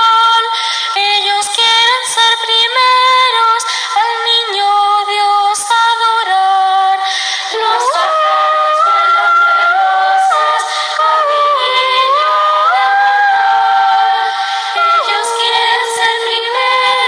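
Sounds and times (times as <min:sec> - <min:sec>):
girls' choir singing a cappella: 0:00.0 - 0:17.0.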